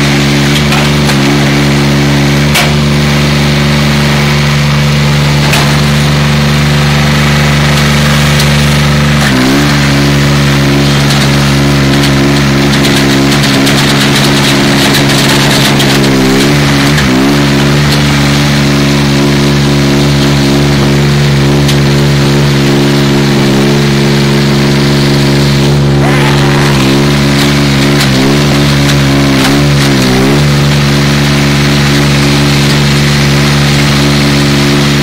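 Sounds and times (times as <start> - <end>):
construction machine engine running: 0.0 - 35.0.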